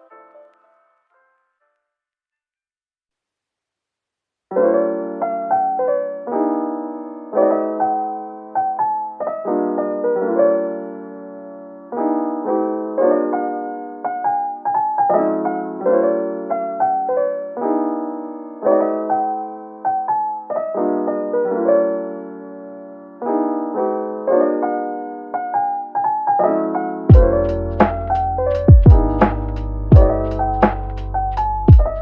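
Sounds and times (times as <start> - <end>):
gentle piano tune: 0.0 - 2.0, 4.5 - 32.0.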